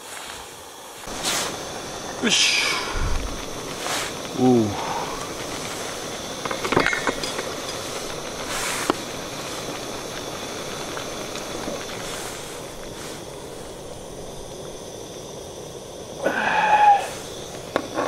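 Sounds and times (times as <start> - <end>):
gas stove hissing: 0.0 - 18.0.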